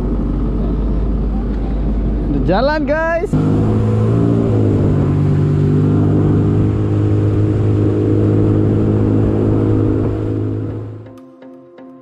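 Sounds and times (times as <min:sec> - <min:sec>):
jet ski engine drone: 0:00.0 - 0:11.1.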